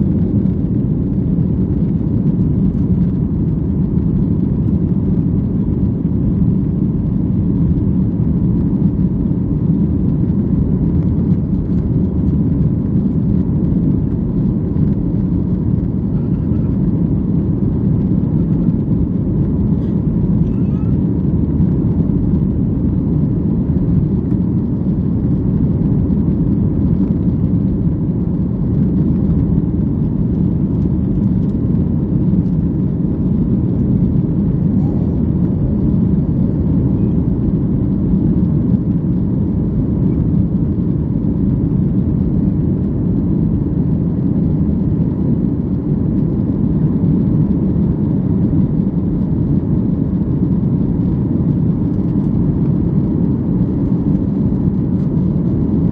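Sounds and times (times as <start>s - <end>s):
jet engines in aircraft cabin: 0.0s - 55.9s.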